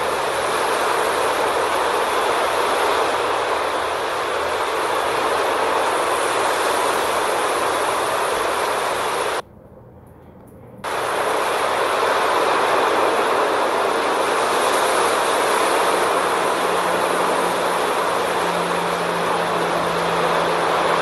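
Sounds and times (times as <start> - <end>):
surf rushing: 0.0 - 9.4, 10.9 - 21.0
wind on beach: 0.0 - 9.4, 10.9 - 21.0.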